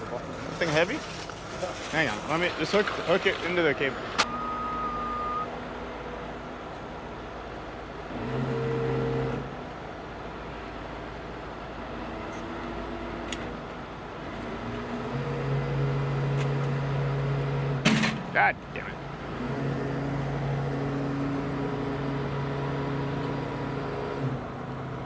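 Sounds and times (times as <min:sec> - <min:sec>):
diesel truck engine running: 0:00.0 - 0:12.9, 0:13.6 - 0:25.0.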